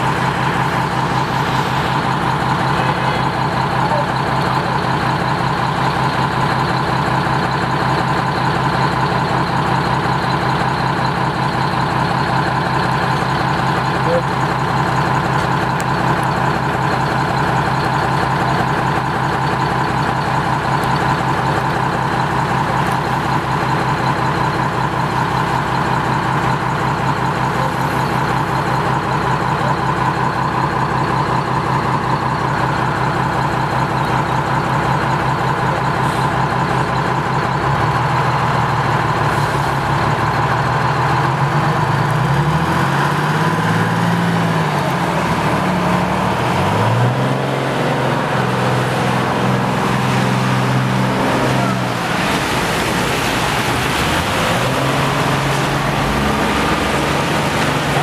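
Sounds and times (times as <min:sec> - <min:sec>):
bus engine idling and revving: 0:00.0 - 0:58.0.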